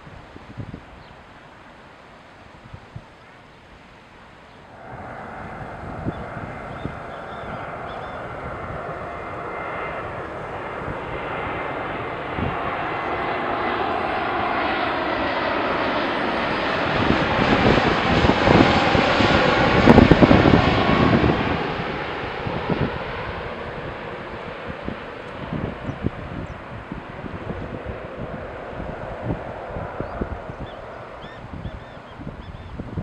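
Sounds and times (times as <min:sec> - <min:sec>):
jet engines roaring: 0:04.6 - 0:33.0.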